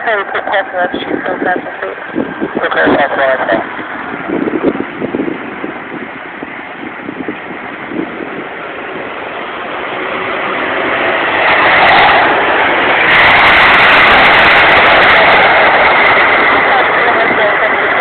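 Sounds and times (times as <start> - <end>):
jet engine rushing noise: 0.0 - 18.0.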